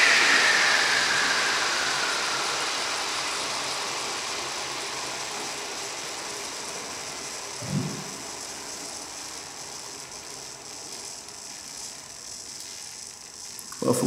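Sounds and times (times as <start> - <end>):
electric motor whine spinning down: 0.0 - 14.0.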